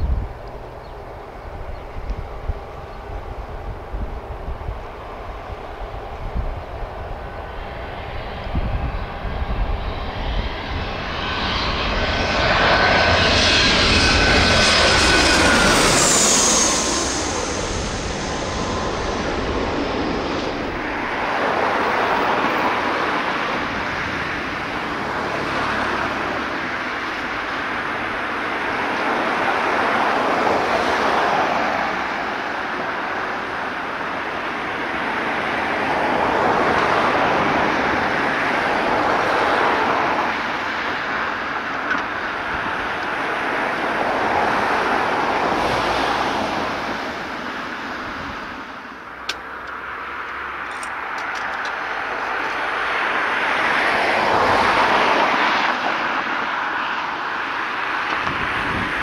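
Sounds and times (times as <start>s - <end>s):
jet aircraft passing: 0.0s - 59.0s.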